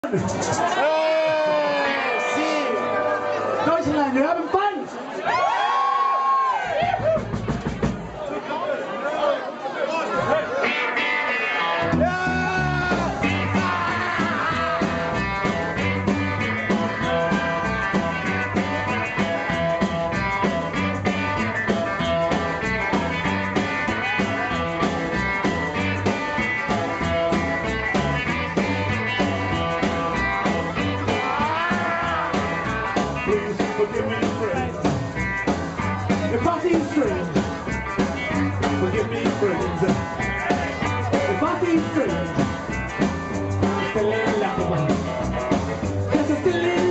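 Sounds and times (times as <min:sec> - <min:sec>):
rock and roll band playing live: 0:00.0 - 0:04.5, 0:06.7 - 0:08.2, 0:10.2 - 0:46.9.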